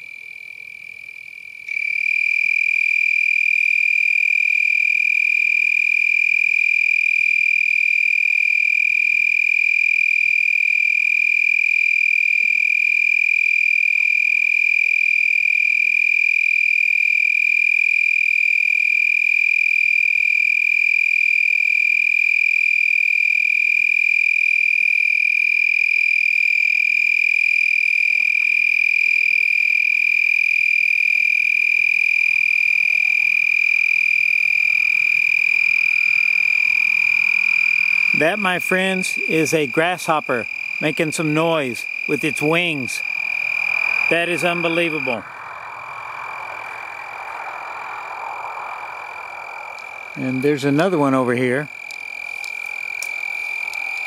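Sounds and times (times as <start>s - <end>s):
tree cricket trilling: 0.0s - 54.0s.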